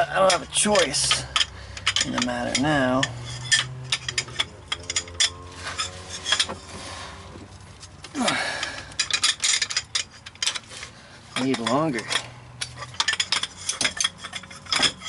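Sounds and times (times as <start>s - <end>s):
steel hand tools clinking: 0.0s - 6.7s, 7.5s - 15.0s.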